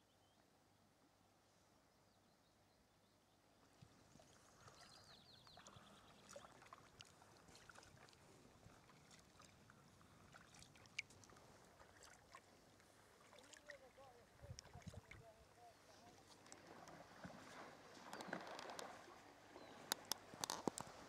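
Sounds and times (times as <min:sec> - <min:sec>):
paddle drips and splashes: 0:03.8 - 0:21.0.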